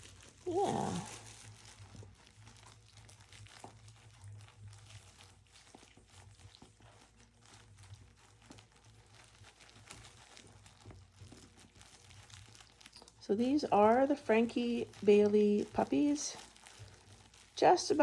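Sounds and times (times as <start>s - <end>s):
puppies scrabbling with toys: 0.0s - 18.0s.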